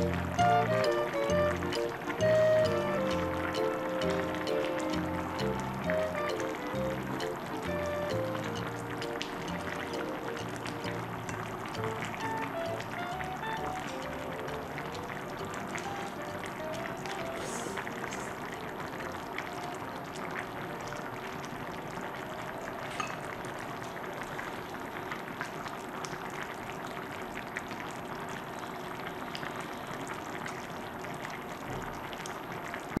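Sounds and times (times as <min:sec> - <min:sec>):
stew bubbling in a pot: 0:00.0 - 0:33.0.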